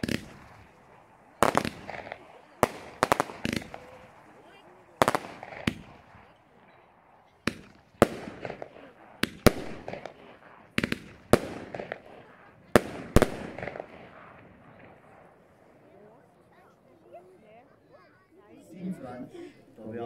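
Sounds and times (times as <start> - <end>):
firework bangs: 0.0 - 16.1
firework crackling: 0.0 - 16.7.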